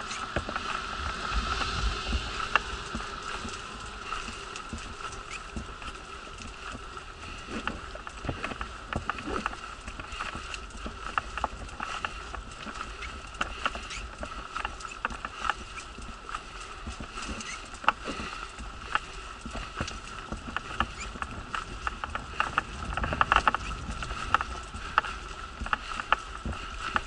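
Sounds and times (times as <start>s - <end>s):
wheelchair rolling on gravel: 0.0s - 27.0s.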